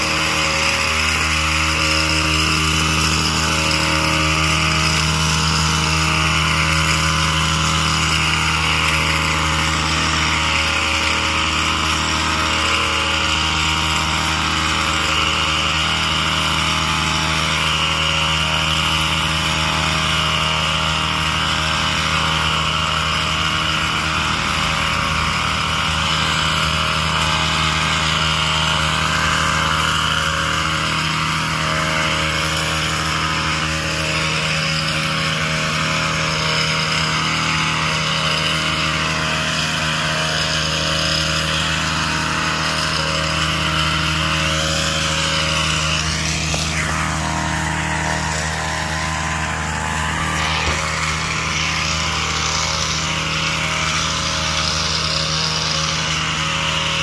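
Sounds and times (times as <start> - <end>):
trimmer engine running: 0.0 - 57.0.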